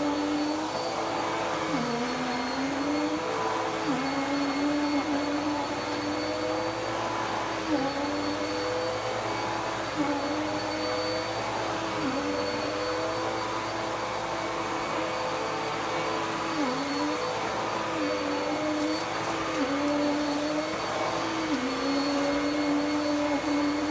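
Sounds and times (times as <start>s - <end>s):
vacuum cleaner running on carpet: 0.0s - 23.9s.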